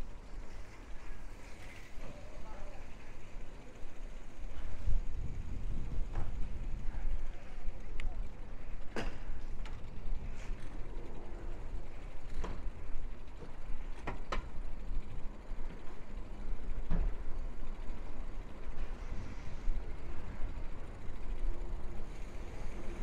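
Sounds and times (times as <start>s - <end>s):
road and wind rumble: 0.0s - 23.0s.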